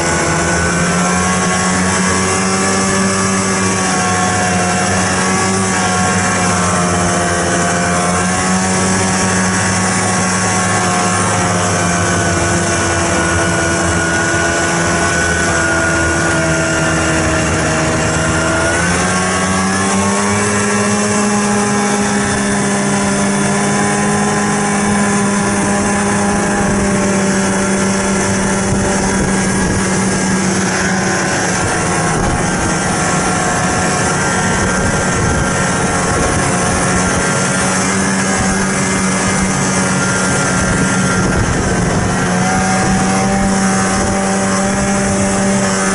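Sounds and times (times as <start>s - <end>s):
snowmobile engine running: 0.0s - 45.9s.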